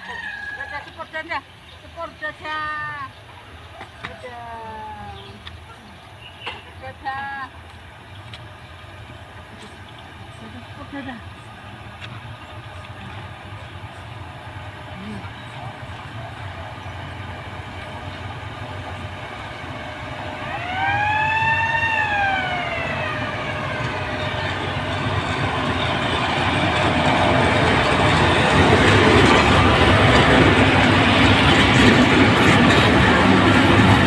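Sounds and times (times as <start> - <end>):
train wheels on rails: 2.1 - 34.0.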